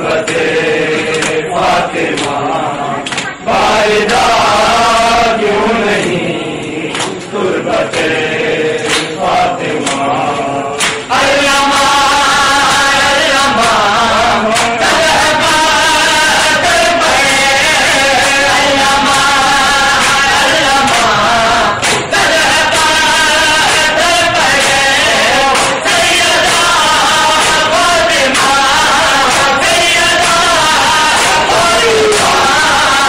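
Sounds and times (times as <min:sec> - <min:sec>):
men chanting a lament: 0:00.0 - 0:33.0.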